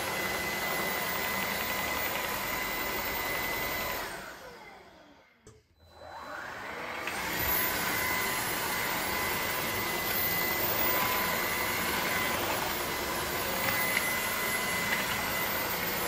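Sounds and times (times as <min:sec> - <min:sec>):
stick vacuum running: 0:00.0 - 0:05.3, 0:05.9 - 0:16.0.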